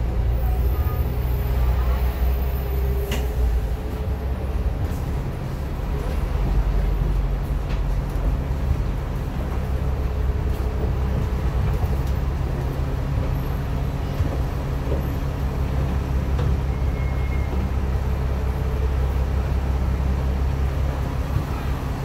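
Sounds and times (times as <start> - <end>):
bus diesel engine idling: 0.0 - 22.0.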